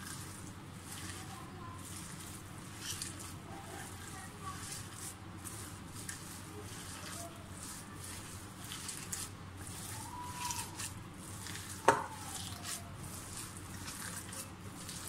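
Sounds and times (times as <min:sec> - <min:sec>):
hands kneading wet mince: 0:00.0 - 0:15.0.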